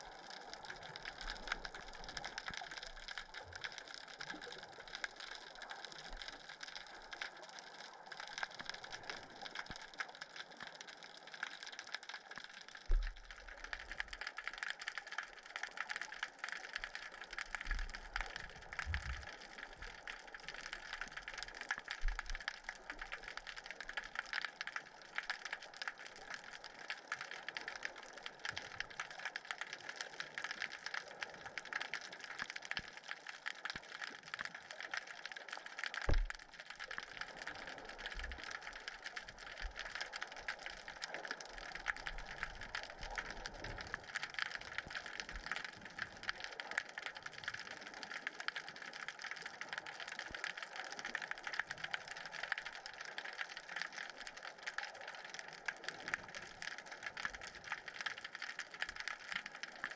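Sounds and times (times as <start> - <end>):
underwater crackle of clicks: 0.0 - 59.9.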